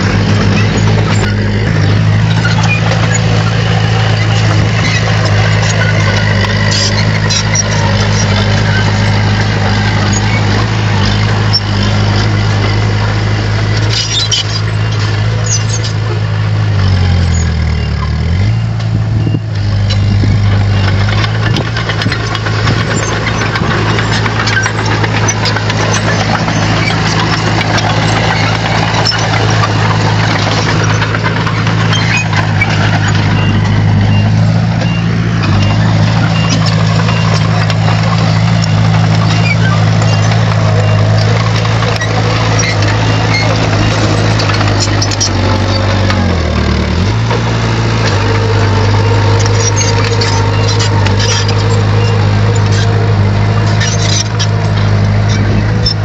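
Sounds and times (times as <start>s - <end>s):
clicks and clanks: 0.0s - 13.0s, 18.8s - 56.0s
bulldozer diesel engine running: 0.0s - 56.0s.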